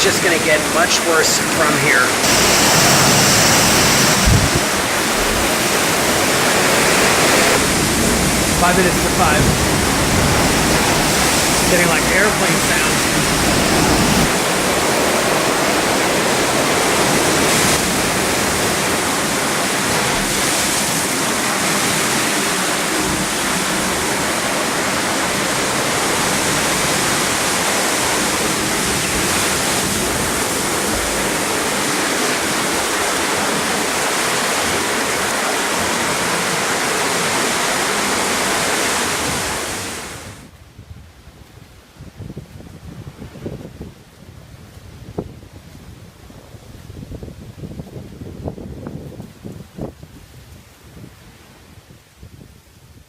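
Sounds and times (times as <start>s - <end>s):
hurricane wind rushing: 0.0s - 53.0s.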